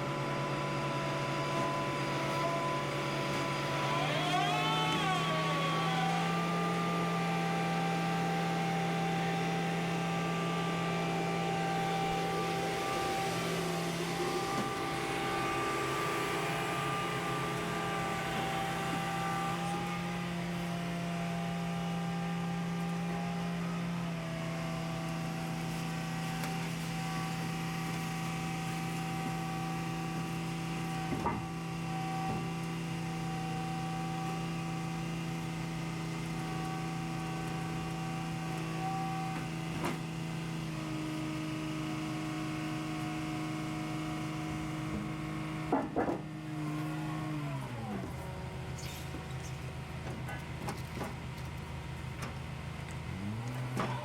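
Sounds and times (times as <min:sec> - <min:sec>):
crane engine droning: 0:00.0 - 0:54.0.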